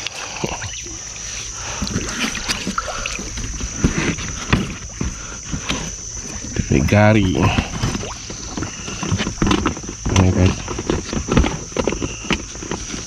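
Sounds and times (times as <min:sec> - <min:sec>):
knocks in a small boat: 0:01.7 - 0:13.0.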